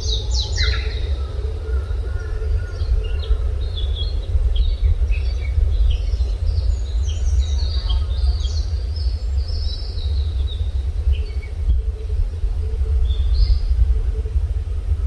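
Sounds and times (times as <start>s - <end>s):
songbirds chirping: 0.0s - 14.3s
steady low rumble: 0.0s - 15.0s.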